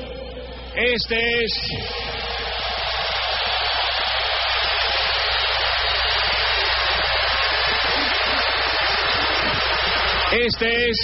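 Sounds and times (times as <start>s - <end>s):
stadium crowd cheering and applauding: 1.6s - 11.0s.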